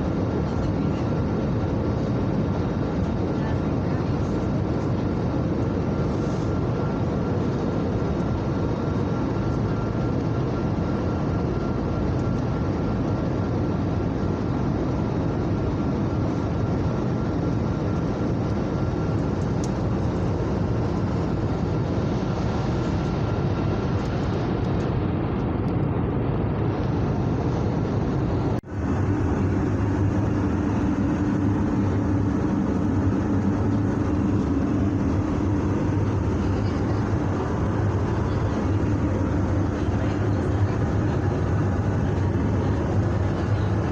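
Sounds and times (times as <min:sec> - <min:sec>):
airliner engines and airflow in cabin: 0:00.0 - 0:43.9.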